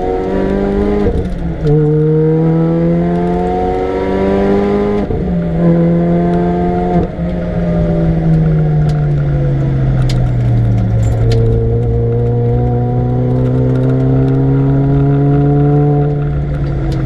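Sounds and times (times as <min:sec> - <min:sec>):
supercharged car engine revving: 0:00.0 - 0:17.0.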